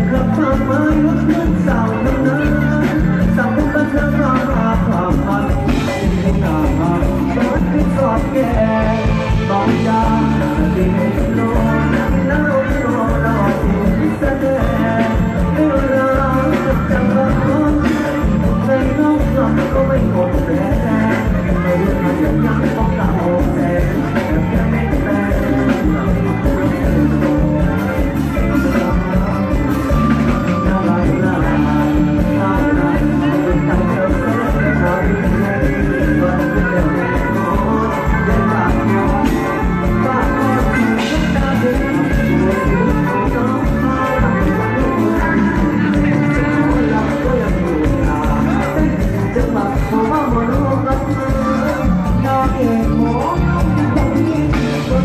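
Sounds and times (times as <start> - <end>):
live band music: 0.0 - 55.0
steady drum beat: 0.0 - 55.0.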